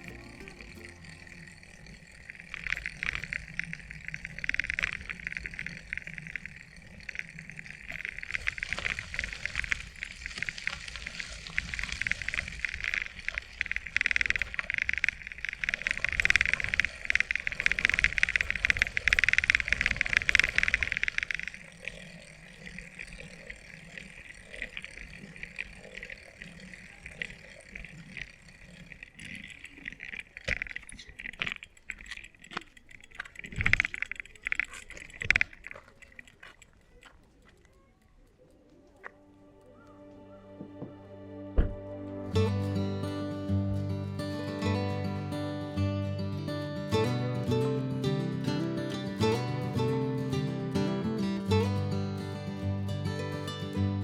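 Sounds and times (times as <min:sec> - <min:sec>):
chorus of calling animals: 0:00.0 - 0:54.0.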